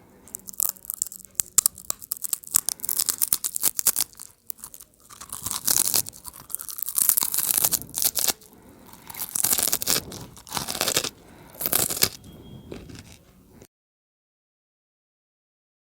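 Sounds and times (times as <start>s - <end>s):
chewing crunchy food: 0.0s - 13.7s.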